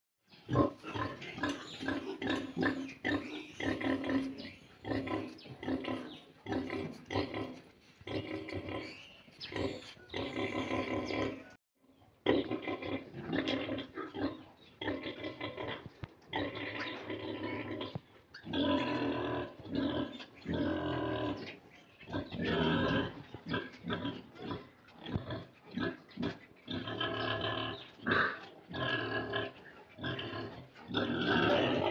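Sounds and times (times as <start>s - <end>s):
pigs grunting and squealing: 0.4s - 11.6s, 12.2s - 31.9s.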